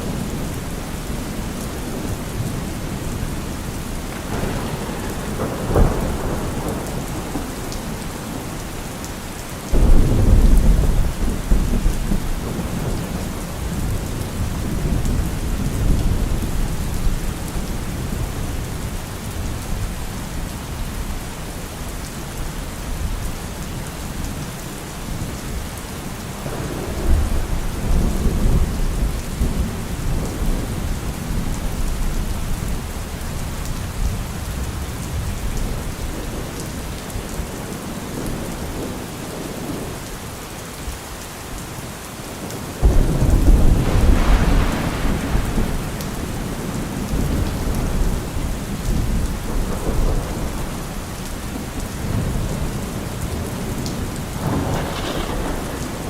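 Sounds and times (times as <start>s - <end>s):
rolling thunder rumble: 0.0s - 20.8s, 26.4s - 40.0s, 42.4s - 56.0s
steady rain falling: 0.0s - 56.0s.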